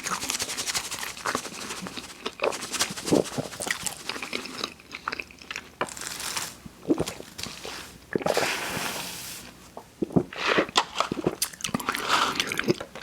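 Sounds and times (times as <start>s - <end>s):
person chewing food: 0.0s - 8.8s, 9.7s - 13.0s.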